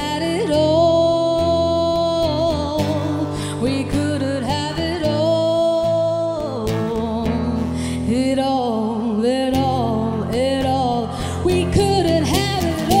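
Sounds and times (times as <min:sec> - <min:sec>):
acoustic guitar: 0:00.0 - 0:13.0
woman singing: 0:00.0 - 0:13.0.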